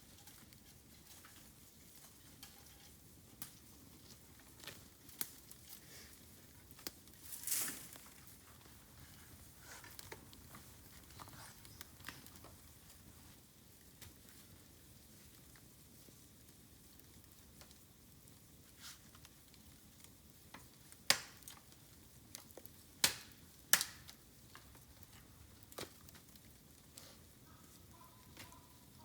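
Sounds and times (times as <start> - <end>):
bamboo fire crackling and popping: 0.0 - 29.0.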